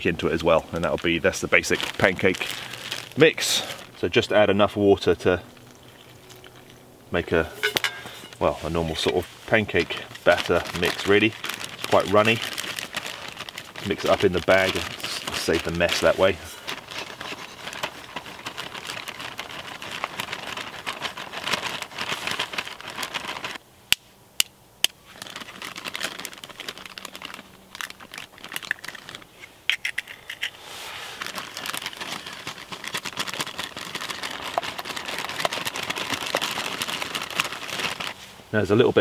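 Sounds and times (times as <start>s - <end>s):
plastic bag crinkling: 0.0s - 23.6s, 25.0s - 38.4s.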